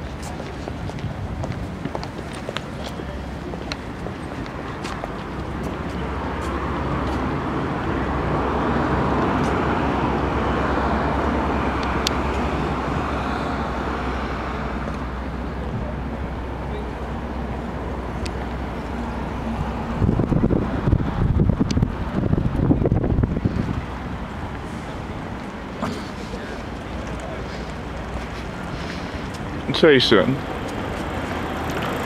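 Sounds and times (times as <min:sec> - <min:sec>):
vehicle passing: 0:00.0 - 0:32.0.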